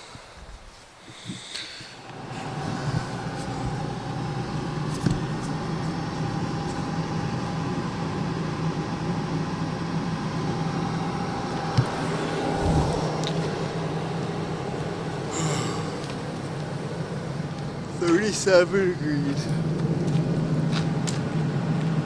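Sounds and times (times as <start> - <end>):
car engine running: 2.0 - 22.0.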